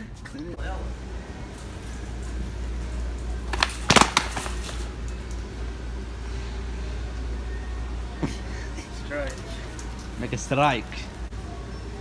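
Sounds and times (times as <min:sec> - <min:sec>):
steady low hum: 0:00.6 - 0:12.0.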